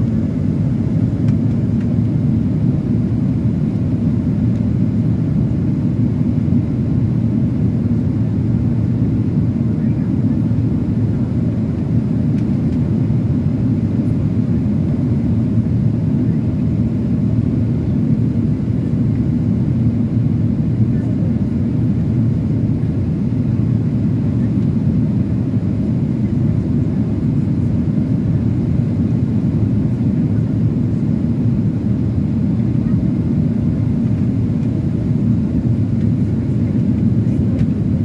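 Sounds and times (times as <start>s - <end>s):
airplane cabin engine roar: 0.0s - 38.0s.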